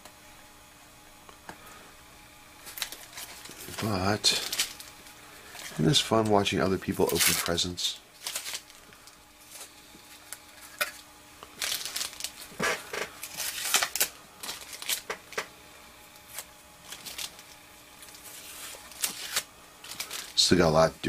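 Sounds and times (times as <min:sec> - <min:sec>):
tape peeling and crinkling: 0:02.6 - 0:15.5, 0:16.1 - 0:20.4.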